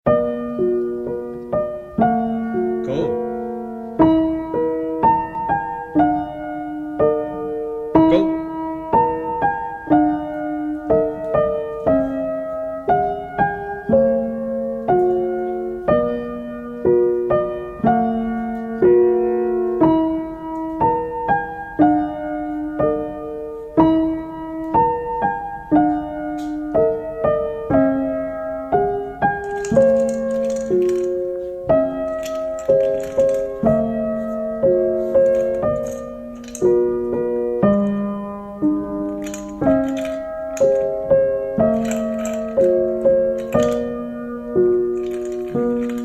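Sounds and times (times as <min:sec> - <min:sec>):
slow gentle piano melody: 0:00.1 - 0:46.0.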